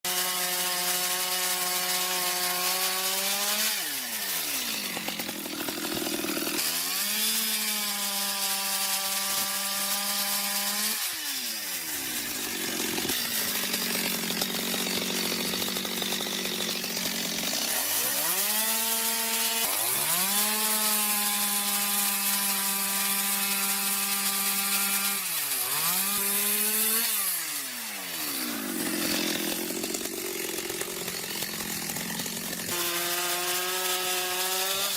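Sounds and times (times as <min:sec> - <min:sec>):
chainsaw engine revving: 0:00.1 - 0:34.9
rough sawing noise: 0:00.1 - 0:34.9.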